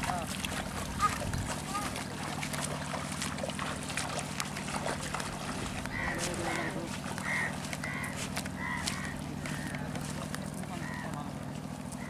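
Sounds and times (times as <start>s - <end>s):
people wading through water: 0.0s - 12.0s
steady low hum: 0.0s - 12.0s.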